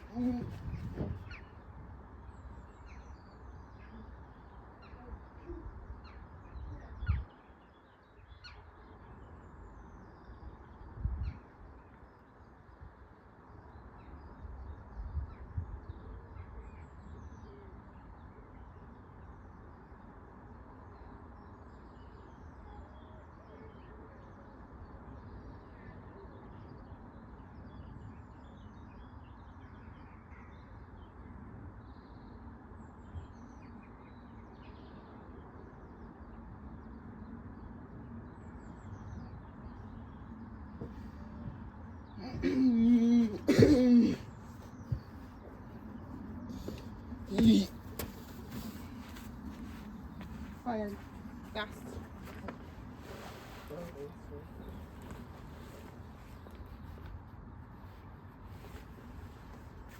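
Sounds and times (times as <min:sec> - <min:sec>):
birds chirping: 0:00.0 - 0:20.1, 0:31.8 - 0:59.9.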